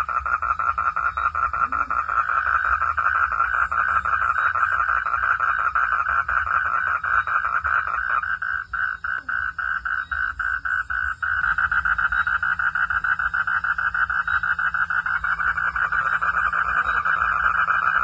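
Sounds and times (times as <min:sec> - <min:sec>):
frogs calling in chorus: 0:00.0 - 0:18.0.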